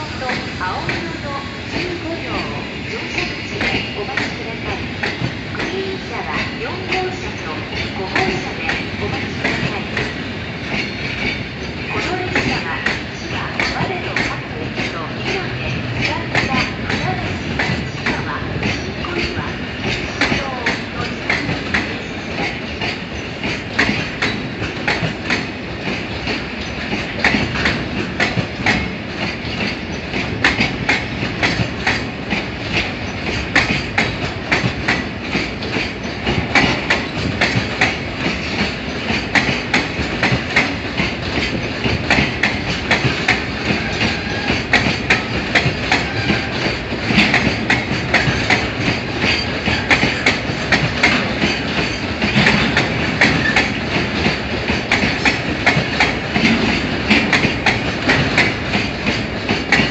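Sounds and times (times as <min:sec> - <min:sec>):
train rumble: 0:00.0 - 0:59.9
train wheels clacking: 0:00.0 - 0:59.9.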